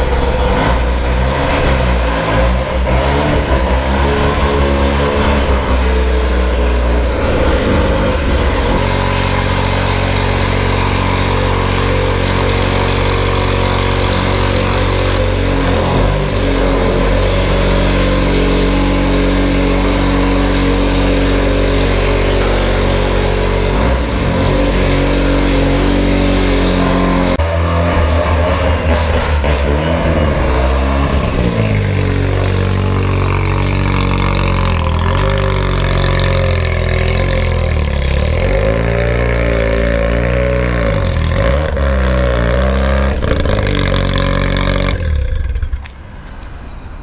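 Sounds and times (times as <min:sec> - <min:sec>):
car engine running on dyno: 0:00.0 - 0:45.8.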